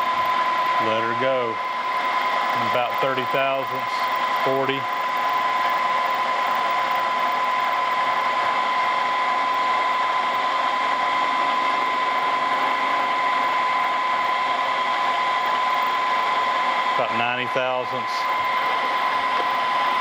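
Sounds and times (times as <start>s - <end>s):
milling machine whining: 0.0s - 20.0s.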